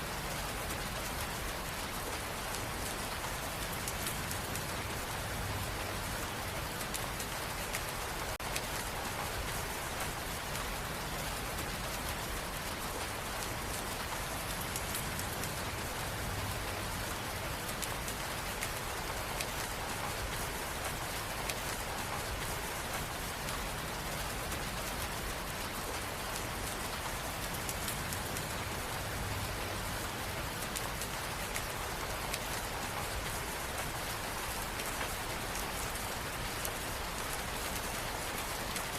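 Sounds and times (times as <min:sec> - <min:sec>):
steady rain falling: 0:00.0 - 0:38.9
raindrop ticks: 0:00.2 - 0:38.9.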